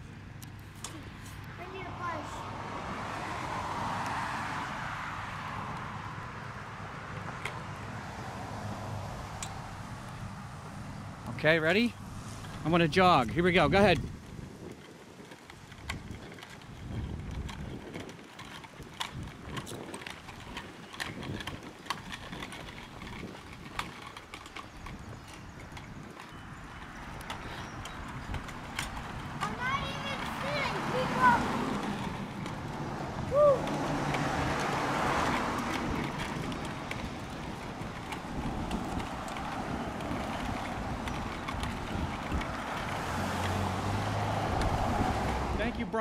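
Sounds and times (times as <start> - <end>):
car passing: 0.0 - 14.2, 15.7 - 46.0.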